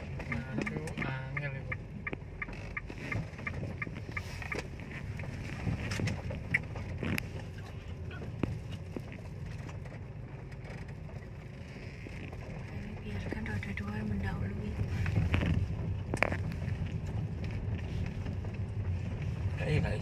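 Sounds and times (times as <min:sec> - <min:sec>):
car knocks and rattles: 0:00.0 - 0:20.0
low rumble of engine and tyres: 0:00.0 - 0:20.0.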